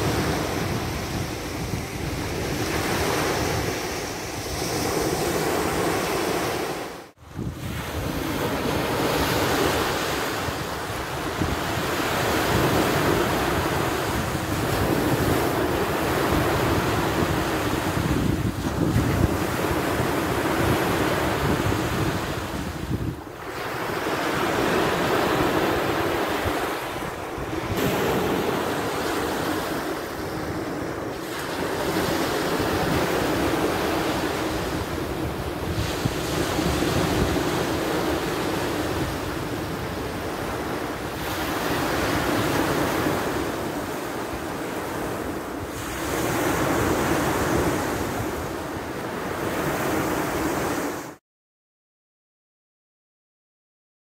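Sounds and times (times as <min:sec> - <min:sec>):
wind rumbling on microphone: 0:00.0 - 0:51.1
small waves breaking on shore: 0:00.0 - 0:51.2.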